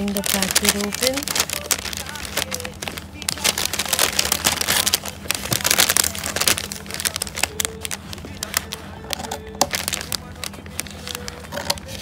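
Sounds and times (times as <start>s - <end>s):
plastic bag crinkling: 0.0s - 12.0s
scissors cutting plastic: 0.0s - 12.0s.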